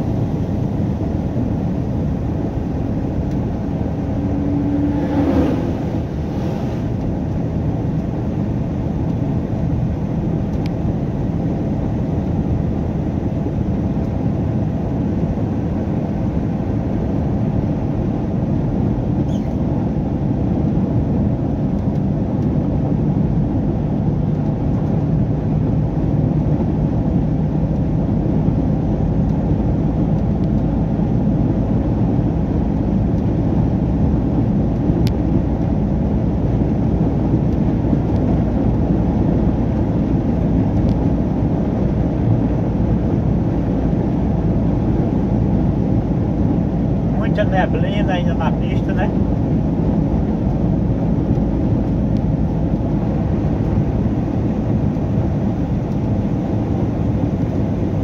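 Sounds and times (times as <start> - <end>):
truck engine and tyre noise: 0.0 - 58.0.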